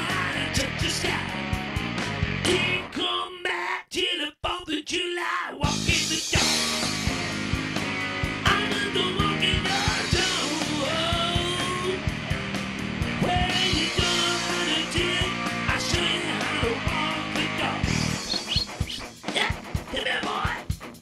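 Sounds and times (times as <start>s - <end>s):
bending electric guitar lead: 0.0s - 2.9s, 5.7s - 20.8s
rock band playing: 0.0s - 2.9s, 5.6s - 21.0s.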